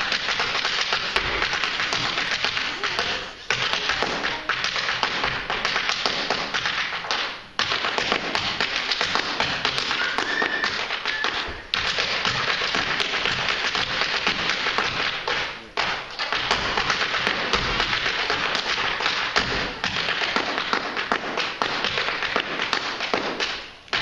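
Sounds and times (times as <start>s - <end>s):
hard shoes tapping on wooden stage: 0.0s - 24.0s.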